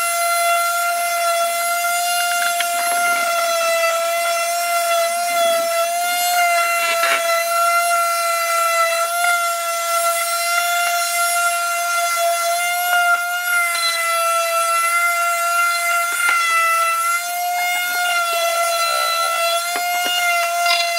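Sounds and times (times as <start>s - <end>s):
electric palm sander whining: 0.0s - 20.9s.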